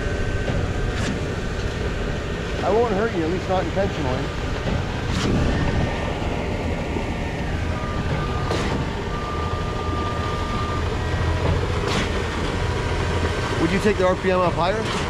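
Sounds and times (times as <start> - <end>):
diesel engine and hydraulics drone: 0.0 - 15.0
pump clacking: 0.0 - 15.0.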